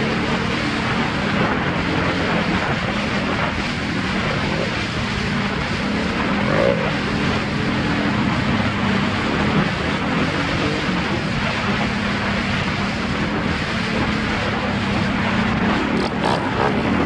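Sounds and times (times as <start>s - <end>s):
atv engine running: 0.0s - 17.0s
wind noise on microphone: 0.0s - 17.0s.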